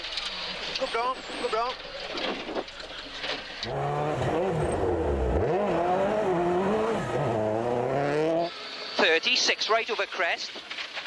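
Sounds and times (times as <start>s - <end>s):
rally car engine at full throttle: 0.0s - 9.8s.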